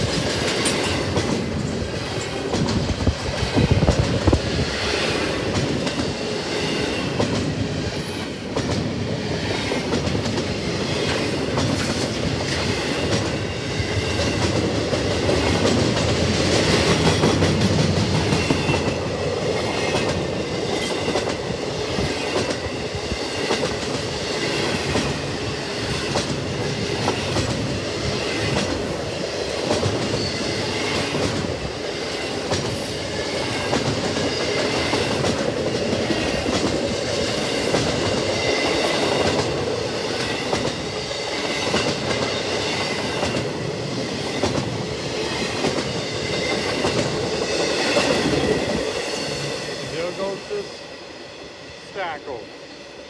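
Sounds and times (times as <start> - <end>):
train wheels clicking over rail joints: 0.0 - 49.9.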